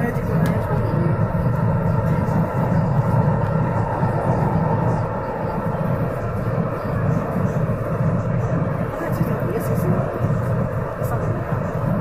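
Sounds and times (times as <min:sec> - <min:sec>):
faint steady tones: 0:00.0 - 0:12.0
train wheels rumbling: 0:00.0 - 0:12.0.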